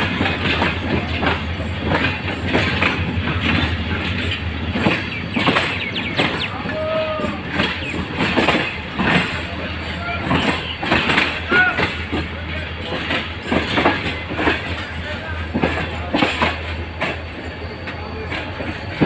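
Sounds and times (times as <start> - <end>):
train rumbling: 0.0 - 19.0
train wheel squeal: 0.0 - 19.0
wheels clacking over rail joints: 0.0 - 19.0.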